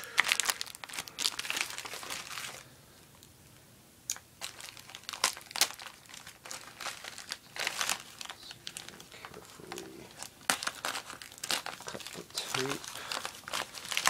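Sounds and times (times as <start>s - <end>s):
plastic bag and paper crinkling: 0.0s - 2.7s, 4.4s - 14.0s.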